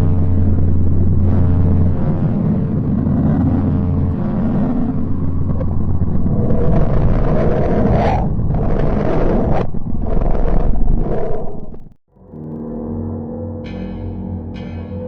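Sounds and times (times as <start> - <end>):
deep roaring drone: 0.0 - 15.0
low hum: 0.0 - 15.0.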